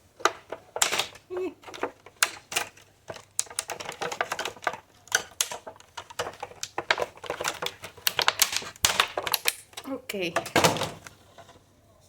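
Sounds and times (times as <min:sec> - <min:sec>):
plastic packaging clicking and crinkling: 0:00.0 - 0:11.6.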